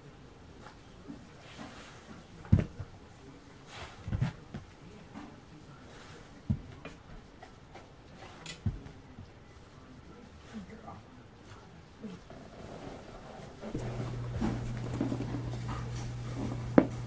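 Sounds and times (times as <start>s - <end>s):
soft rustles: 0.5s - 17.0s.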